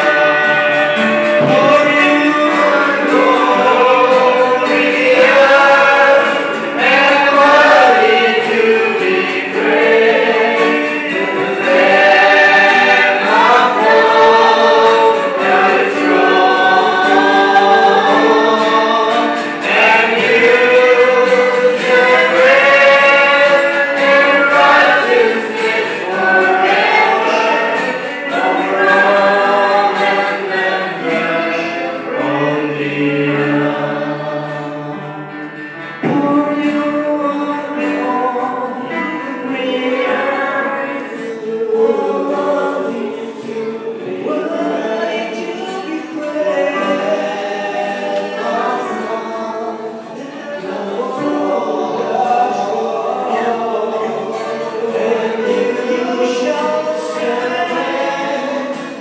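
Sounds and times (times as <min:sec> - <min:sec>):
band accompaniment: 0:00.0 - 0:59.0
congregation singing worship song: 0:00.0 - 0:59.0.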